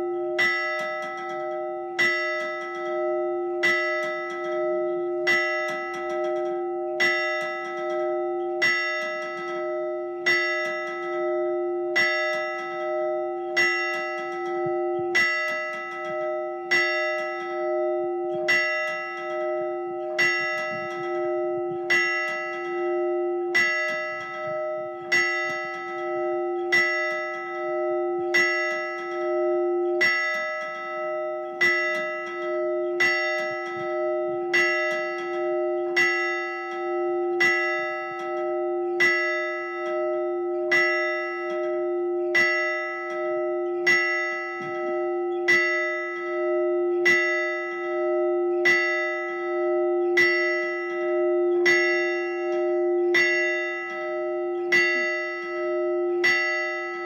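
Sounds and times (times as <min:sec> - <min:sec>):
church bell ringing: 0:00.0 - 0:57.0.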